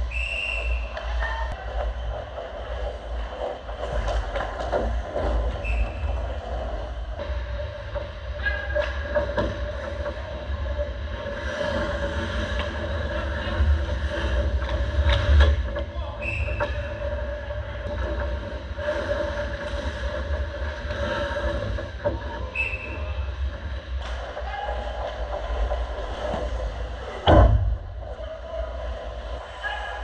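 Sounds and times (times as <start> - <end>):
low rumble and hum: 0.0 - 30.0.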